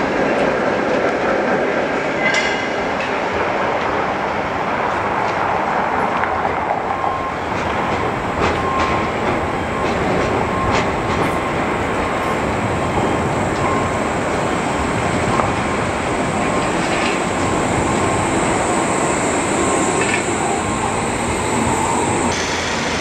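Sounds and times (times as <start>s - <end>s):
tram wheels rumbling on rail: 0.0s - 23.0s.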